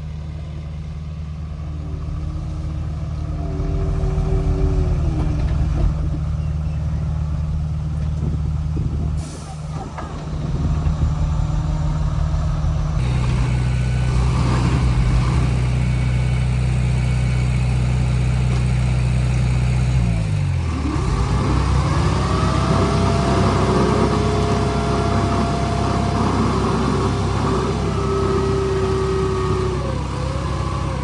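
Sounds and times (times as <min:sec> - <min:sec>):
bulldozer diesel engine running: 0:00.0 - 0:31.0
engine whine: 0:00.0 - 0:31.0.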